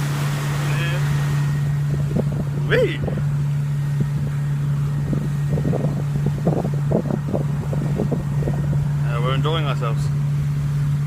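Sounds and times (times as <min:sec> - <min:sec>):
boat engine humming: 0:00.0 - 0:11.0
wind buffeting microphone: 0:00.0 - 0:11.0.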